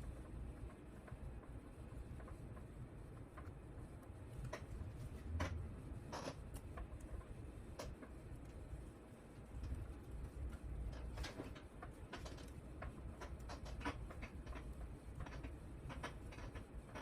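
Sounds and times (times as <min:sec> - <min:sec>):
low room noise: 0:00.0 - 0:17.0.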